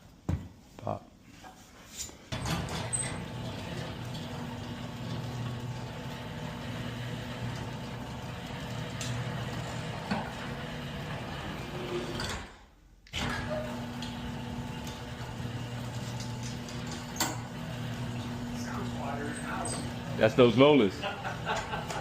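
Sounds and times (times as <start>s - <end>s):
garage door opener running: 2.3s - 22.0s.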